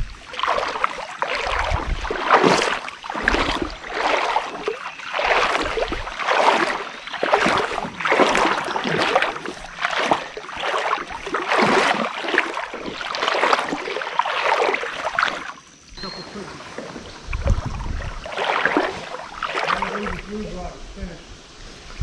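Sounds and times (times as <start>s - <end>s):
water splashing around a kayak: 0.0s - 20.7s.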